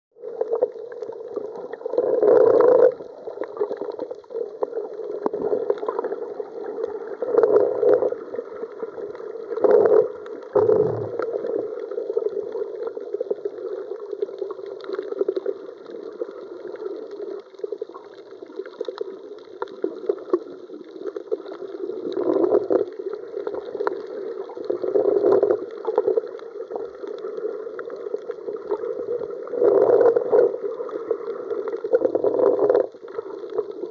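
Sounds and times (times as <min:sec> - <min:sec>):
muffled underwater rush: 0:00.2 - 0:33.9.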